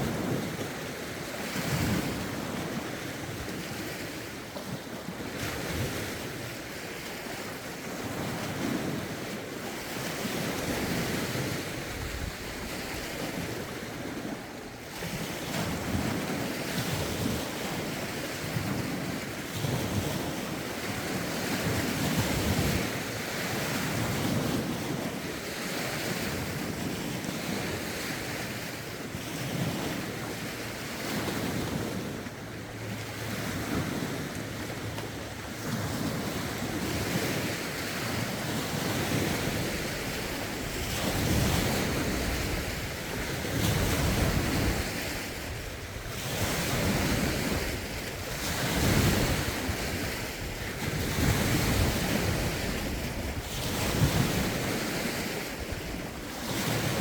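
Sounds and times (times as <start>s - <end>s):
waves washing in: 0.0s - 57.0s
wind buffeting microphone: 0.0s - 57.0s.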